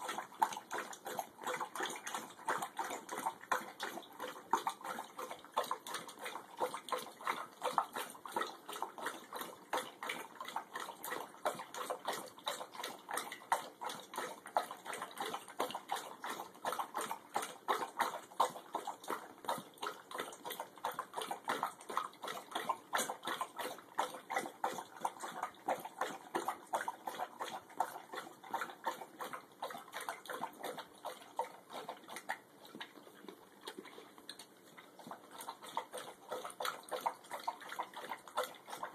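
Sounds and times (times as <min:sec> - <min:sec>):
dog lapping water from metal bowl: 0:00.0 - 0:38.9.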